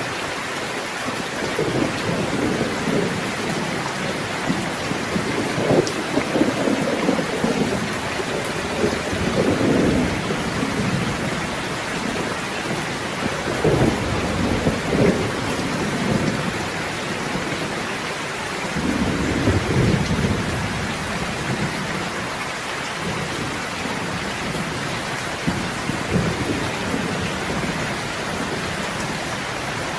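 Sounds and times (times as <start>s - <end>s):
heavy rain: 0.0s - 29.9s
thunder rumbling: 1.3s - 17.9s, 18.6s - 22.4s, 23.0s - 29.9s.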